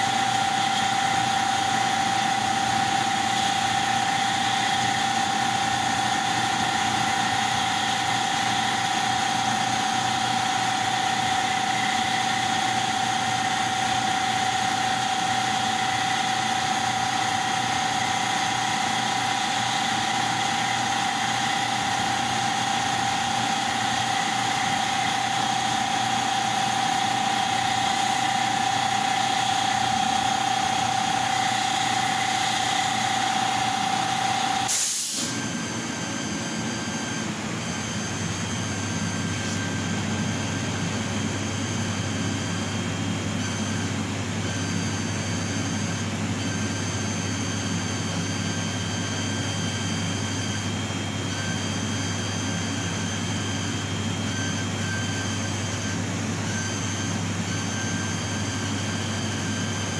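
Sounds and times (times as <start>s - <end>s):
laser cutting machine humming: 0.0s - 59.9s
mid-pitched machine whine: 0.0s - 59.9s.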